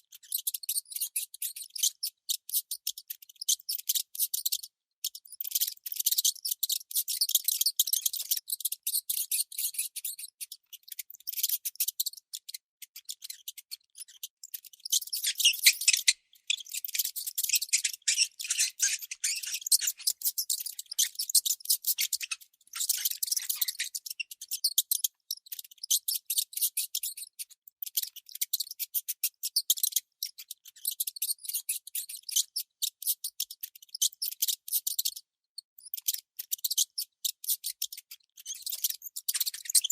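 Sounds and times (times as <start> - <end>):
baby mouse squeaking: 0.1 - 35.2, 35.8 - 39.9.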